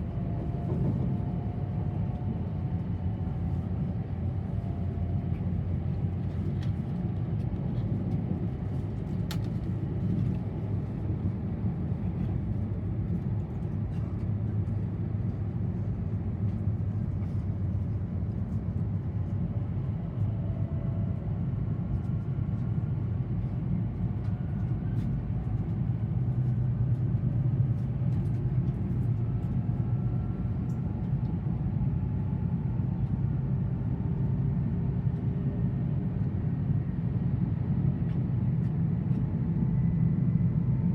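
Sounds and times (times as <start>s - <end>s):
train rumble inside cabin: 0.0s - 40.9s.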